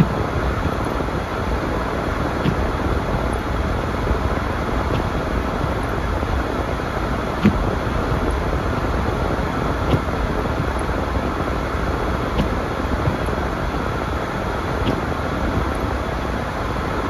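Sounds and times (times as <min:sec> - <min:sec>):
car road and tyre noise: 0:00.0 - 0:17.0
windshield wiper clicking: 0:00.0 - 0:17.0.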